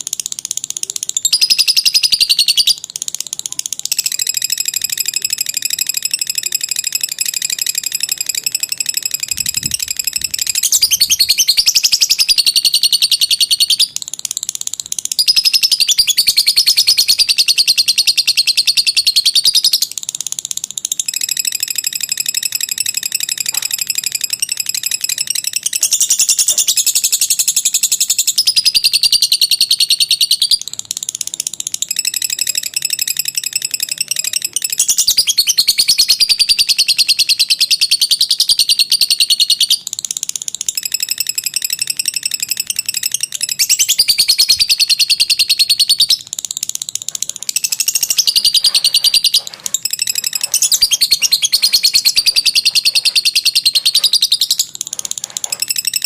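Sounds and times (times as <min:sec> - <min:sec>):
lovebird chattering song: 0:00.0 - 0:56.0.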